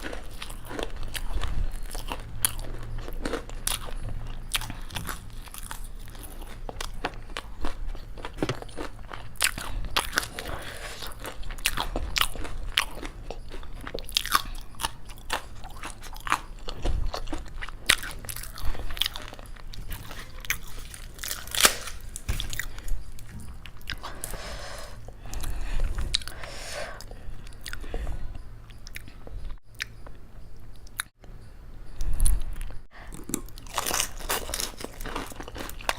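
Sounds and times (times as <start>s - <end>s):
person chewing crisp food: 0.0s - 31.2s, 32.1s - 35.9s.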